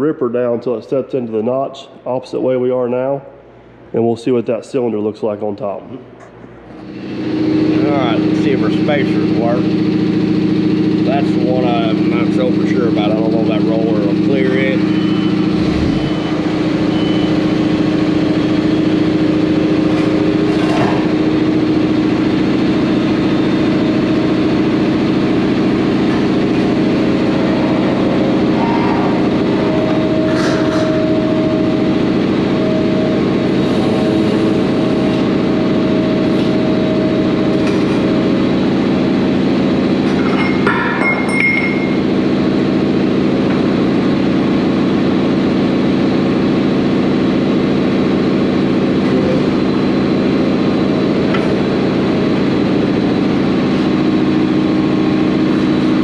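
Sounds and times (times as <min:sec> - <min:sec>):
hydraulic whine: 0:06.7 - 0:56.0
diesel engine running: 0:06.8 - 0:56.0.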